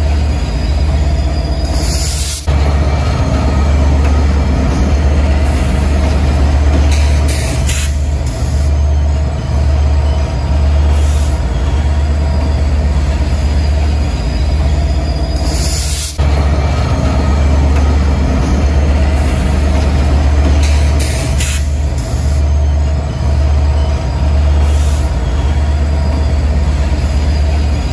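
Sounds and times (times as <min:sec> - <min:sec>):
train rumbling on rails: 0:00.0 - 0:27.9.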